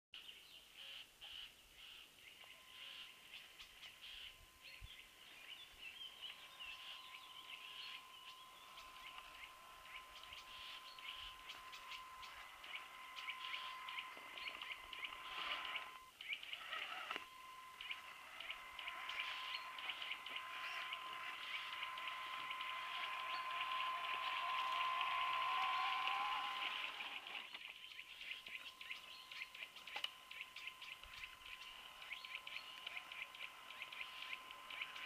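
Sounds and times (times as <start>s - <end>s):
electric motor whine: 1.8s - 35.0s.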